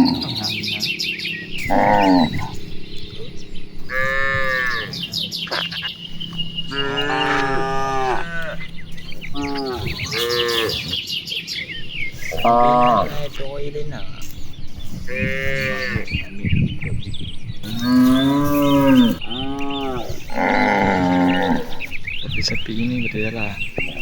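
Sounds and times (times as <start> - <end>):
cattle mooing: 0.0 - 16.3, 17.6 - 24.0.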